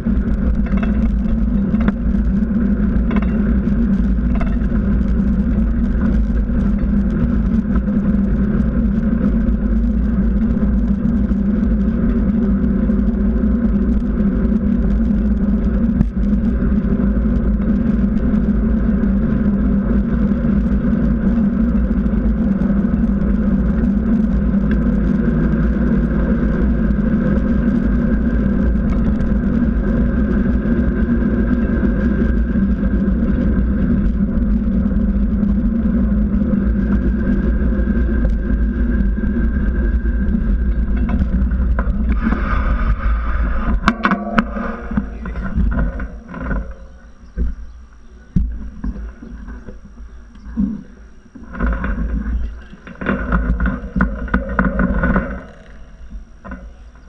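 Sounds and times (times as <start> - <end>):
bike tyre humming on asphalt: 0.0 - 57.0
wind rumbling on microphone: 0.0 - 57.0.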